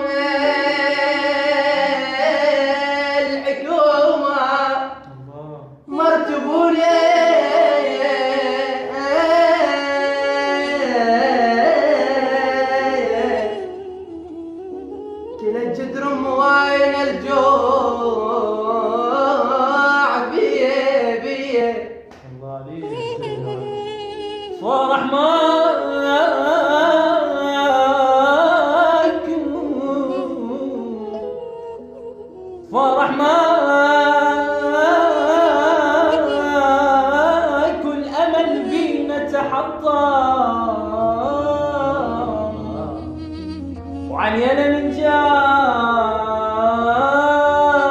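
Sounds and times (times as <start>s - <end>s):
man singing long held notes: 0.0s - 47.9s.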